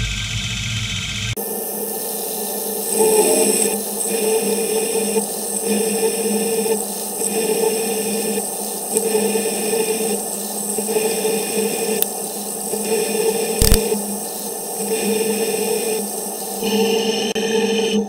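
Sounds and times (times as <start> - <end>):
coolant spray hissing: 0.0 - 17.8
milling machine cutting hum: 0.0 - 18.0.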